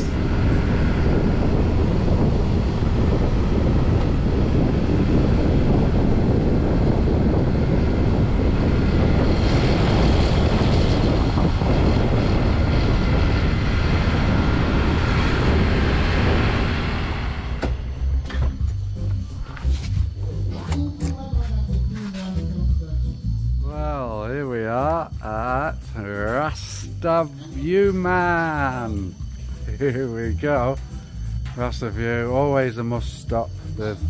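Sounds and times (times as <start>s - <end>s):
wind buffeting microphone: 0.0s - 22.8s, 24.2s - 32.3s
vehicle running noise: 0.0s - 31.8s.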